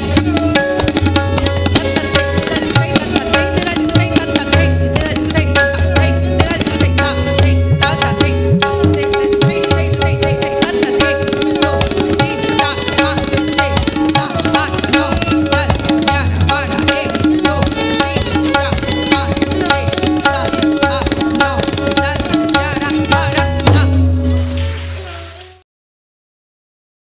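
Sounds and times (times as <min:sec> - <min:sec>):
fast tabla strokes: 0:00.0 - 0:25.6.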